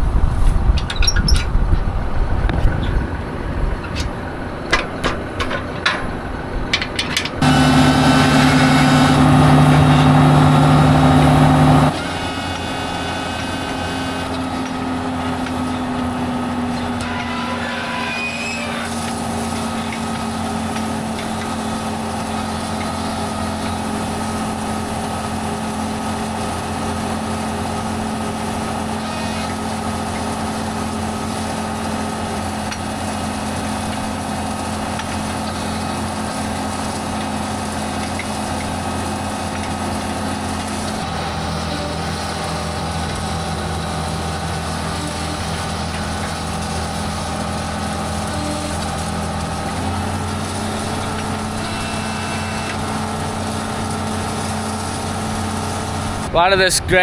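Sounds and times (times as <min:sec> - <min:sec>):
tractor engine running under load: 0:00.0 - 0:17.8, 0:18.6 - 0:57.0.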